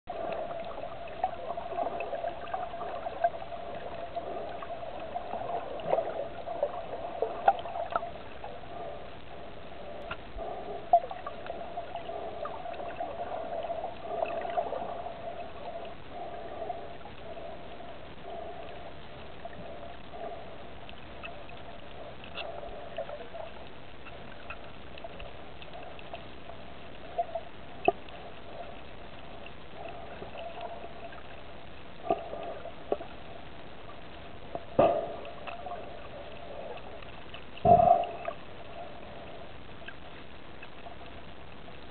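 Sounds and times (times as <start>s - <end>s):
shallow water lapping: 0.1s - 41.7s.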